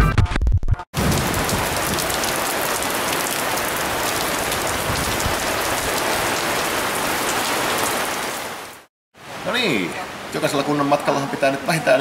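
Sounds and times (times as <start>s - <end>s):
rain pattering on canopy: 1.0s - 11.2s.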